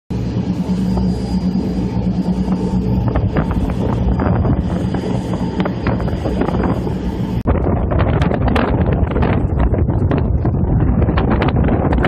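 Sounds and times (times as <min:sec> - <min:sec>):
rushing water: 0:00.1 - 0:11.4
boat engine humming: 0:00.1 - 0:12.0
wind on microphone: 0:00.1 - 0:12.0.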